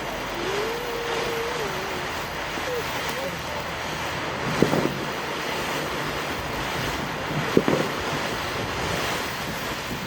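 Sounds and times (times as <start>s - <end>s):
firework fountain hissing: 0.0s - 10.0s.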